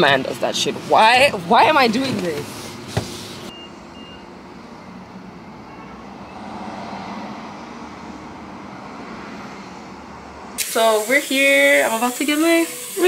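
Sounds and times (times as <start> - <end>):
traffic and engine hum: 0.0 - 12.0.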